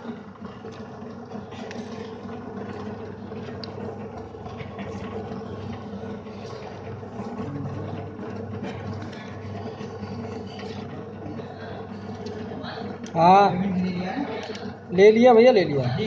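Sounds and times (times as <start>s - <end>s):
packing machine humming: 0.0s - 16.0s.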